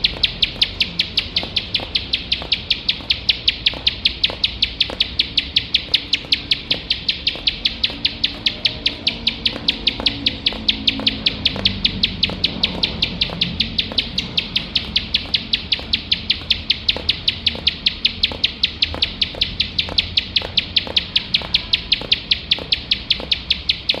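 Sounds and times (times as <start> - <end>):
bird calling sharp ticking notes: 0.0 - 24.0.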